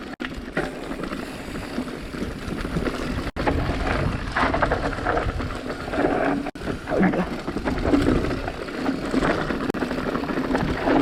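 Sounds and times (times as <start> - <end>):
mountain bike rattling: 0.0 - 11.0.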